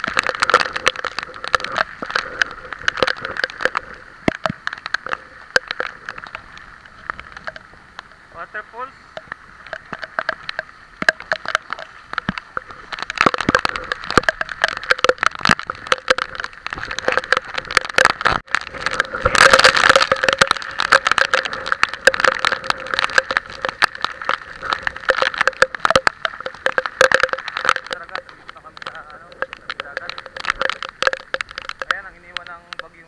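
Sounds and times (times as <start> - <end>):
rain hitting camera: 0.0 - 33.0.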